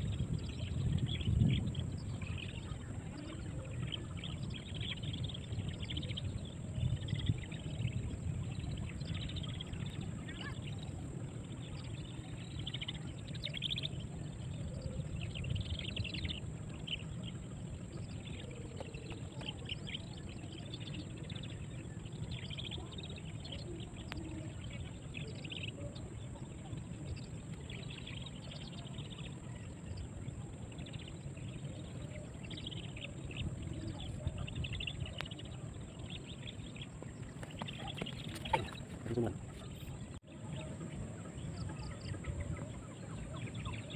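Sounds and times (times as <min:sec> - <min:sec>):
low river rumble: 0:00.0 - 0:43.9.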